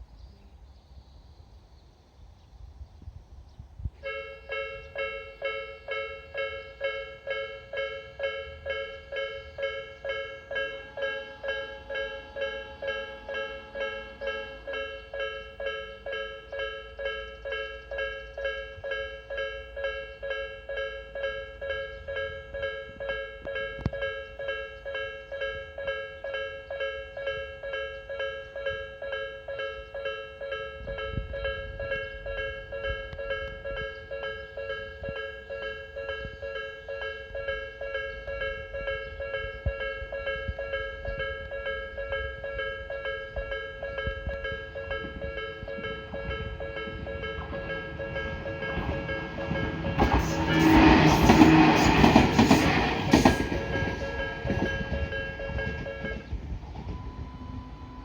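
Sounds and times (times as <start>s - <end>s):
level crossing warning bell: 4.0s - 58.0s.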